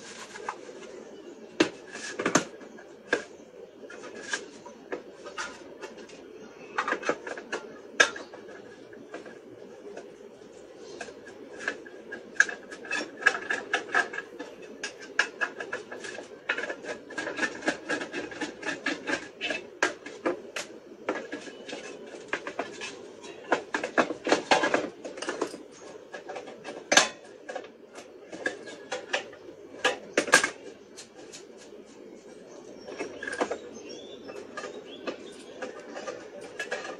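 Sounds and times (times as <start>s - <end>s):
metal clicks and scrapes: 1.6s - 36.9s.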